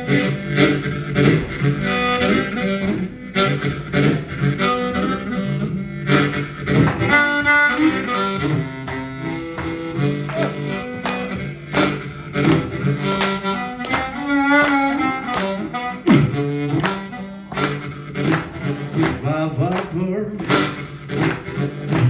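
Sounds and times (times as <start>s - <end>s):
amplified harmonica: 0.0s - 22.0s
blues band playing: 0.0s - 22.0s.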